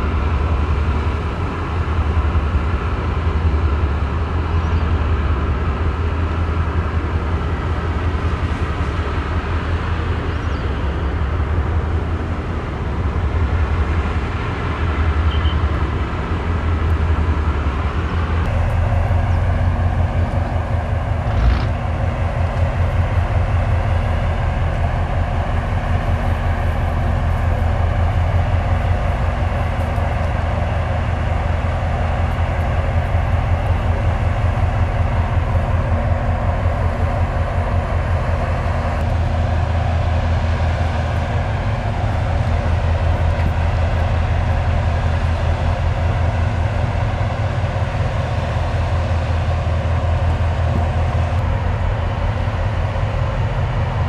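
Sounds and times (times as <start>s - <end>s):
ship diesel engines throbbing: 0.0s - 54.0s.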